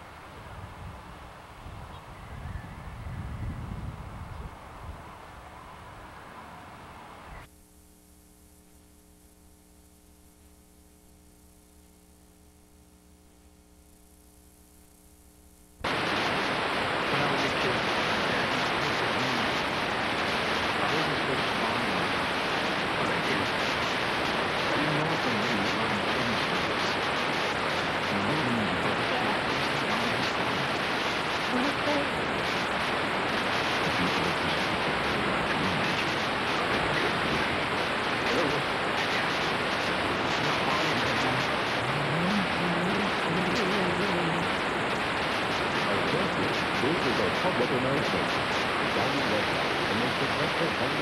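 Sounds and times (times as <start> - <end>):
faint tape playback hum: 0.0 - 51.0
loud videotape static hiss: 0.0 - 51.0.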